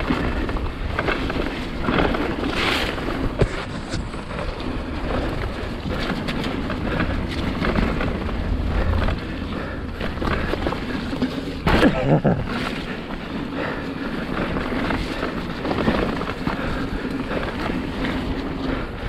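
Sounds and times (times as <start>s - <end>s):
bike knocking and rattling over bumps: 0.0s - 19.0s
bike tyres and frame rumbling: 0.0s - 19.0s
wind buffeting microphone: 0.0s - 19.0s.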